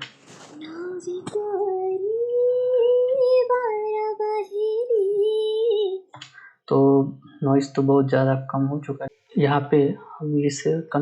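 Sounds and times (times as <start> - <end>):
recorded singing voice: 0.0 - 11.0.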